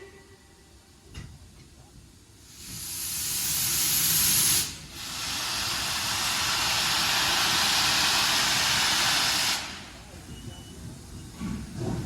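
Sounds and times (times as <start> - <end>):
steam locomotive hissing: 1.9 - 12.0.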